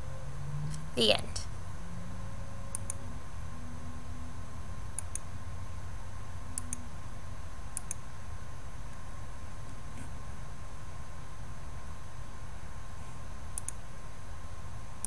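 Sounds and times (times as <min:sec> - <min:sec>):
low microphone hum: 0:00.0 - 0:15.0.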